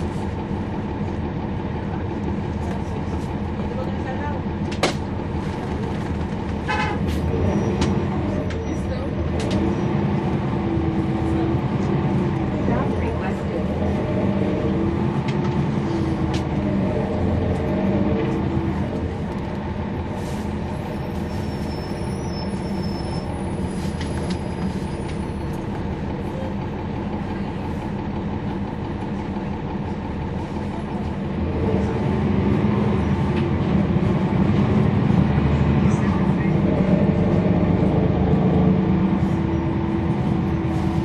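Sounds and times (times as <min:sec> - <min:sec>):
bus diesel engine running: 0:00.0 - 0:41.0.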